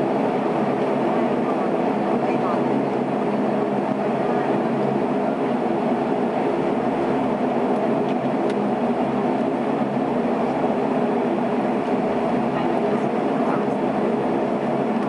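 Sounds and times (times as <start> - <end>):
turboprop engine drone in cabin: 0.0 - 15.0.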